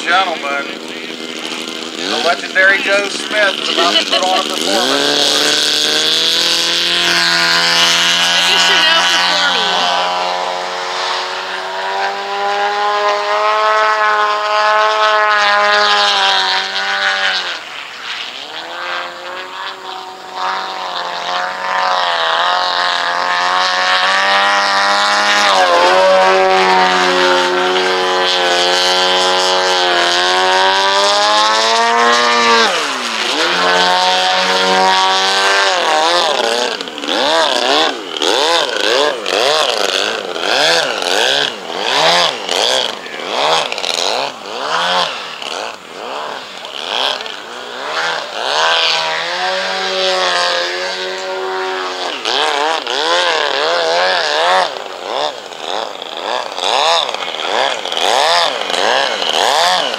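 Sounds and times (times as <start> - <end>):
model airplane engine and propeller: 0.0 - 59.9.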